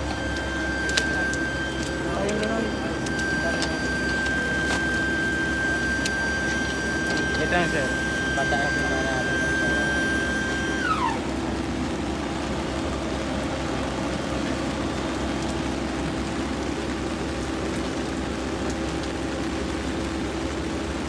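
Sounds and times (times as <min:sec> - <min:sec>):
low machine hum: 0:00.0 - 0:21.0
rain on umbrellas: 0:00.0 - 0:21.0.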